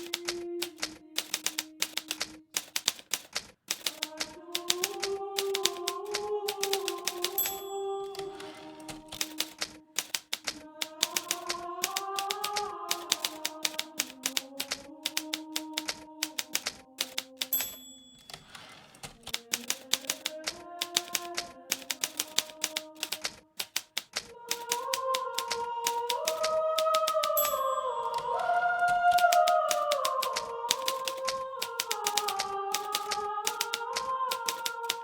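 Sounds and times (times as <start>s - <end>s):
typewriter keystrokes: 0.0s - 28.3s, 29.1s - 35.0s.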